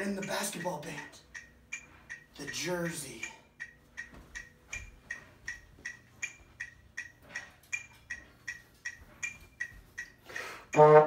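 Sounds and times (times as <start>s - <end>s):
quick ringing ticks: 0.0s - 10.8s.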